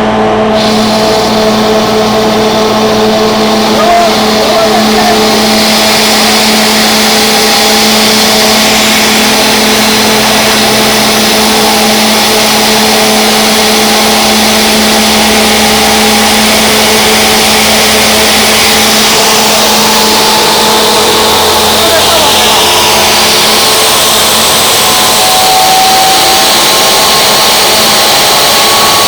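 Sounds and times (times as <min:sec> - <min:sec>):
deep rumble: 0:00.0 - 0:25.7
air compressor humming and hissing: 0:00.0 - 0:29.0.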